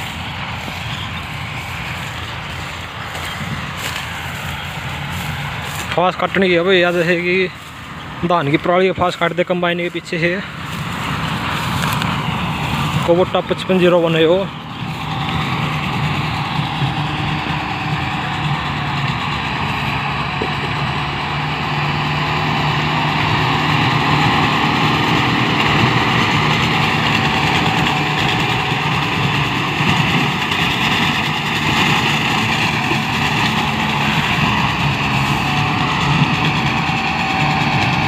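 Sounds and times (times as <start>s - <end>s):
straw cutter whirring: 0.0s - 38.0s
tractor diesel engine drone: 0.0s - 38.0s.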